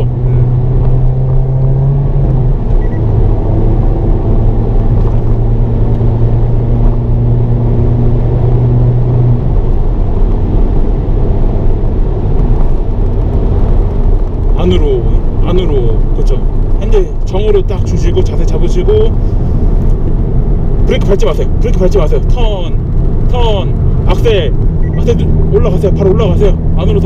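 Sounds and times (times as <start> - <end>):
car engine accelerating: 0.0 - 27.0
road and tyre rumble: 0.0 - 27.0.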